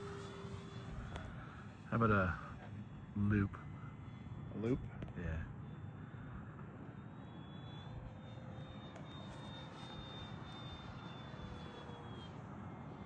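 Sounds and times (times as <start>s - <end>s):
model plane motor whine: 0.0s - 4.7s, 5.6s - 13.0s.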